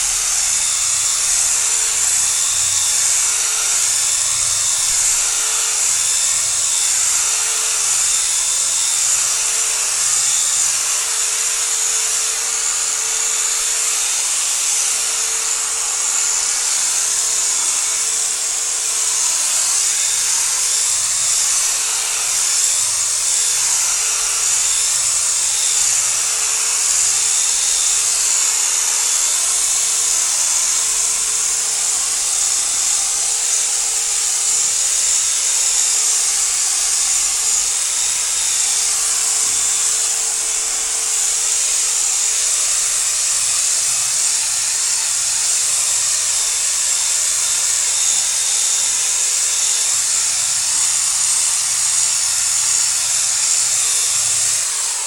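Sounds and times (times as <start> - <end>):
electric polisher whining: 0.0 - 55.0.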